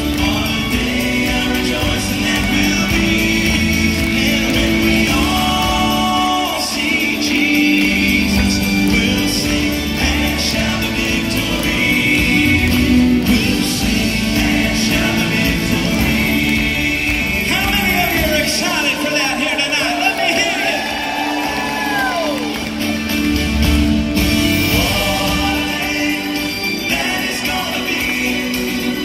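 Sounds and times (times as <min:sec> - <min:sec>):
acoustic guitar: 0:00.0 - 0:19.6, 0:21.0 - 0:29.0
male vocal group singing: 0:00.0 - 0:22.2, 0:24.4 - 0:29.0.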